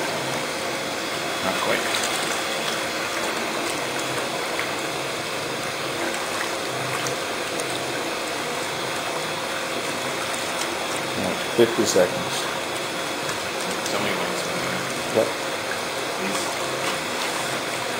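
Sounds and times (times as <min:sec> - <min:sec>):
liquid churning in mixer: 0:00.0 - 0:17.9
mixer motor: 0:00.0 - 0:17.9.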